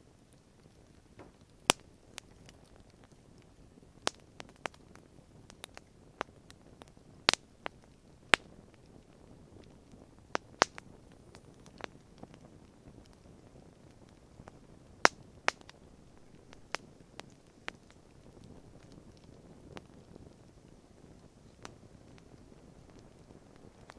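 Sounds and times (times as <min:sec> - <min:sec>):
campfire crackling: 0:00.0 - 0:23.9
faint low hiss: 0:00.0 - 0:23.9.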